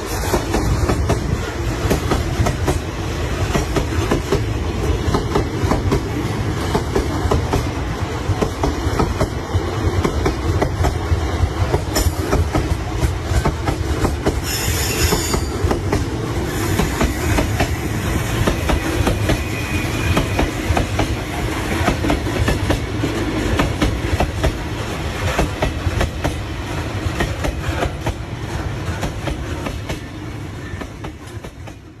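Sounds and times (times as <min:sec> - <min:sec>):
train wheels clattering: 0:00.0 - 0:31.9.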